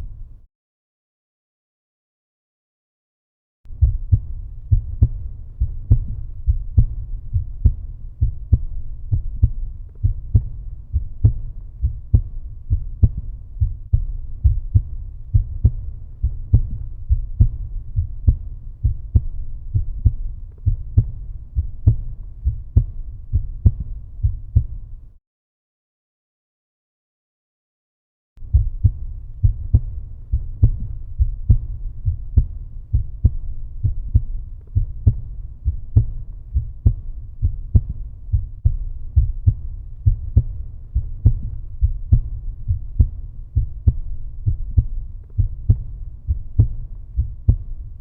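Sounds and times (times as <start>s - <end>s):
heartbeat thumps: 3.7s - 25.1s, 28.4s - 48.0s.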